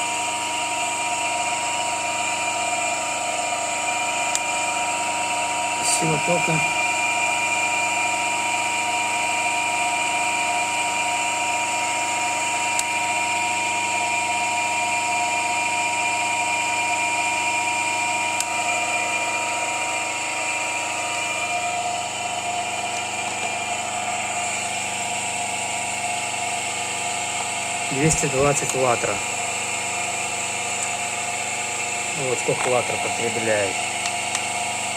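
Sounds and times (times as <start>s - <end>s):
electric motor hum and whine: 0.0s - 34.9s.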